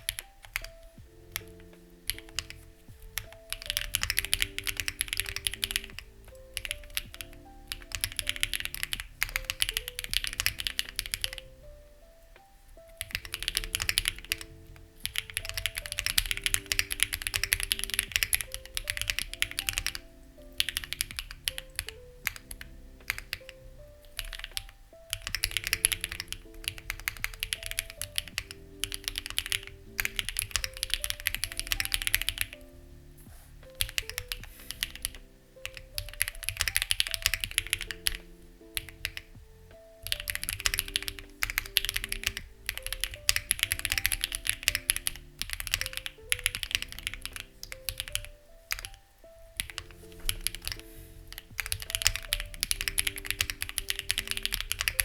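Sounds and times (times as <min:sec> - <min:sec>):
soft background music: 0:00.0 - 0:55.0.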